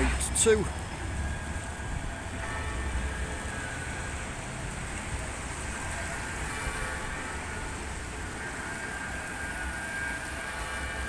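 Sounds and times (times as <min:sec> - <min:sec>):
rain hiss: 0:00.0 - 0:11.0
tram whine: 0:00.0 - 0:11.0.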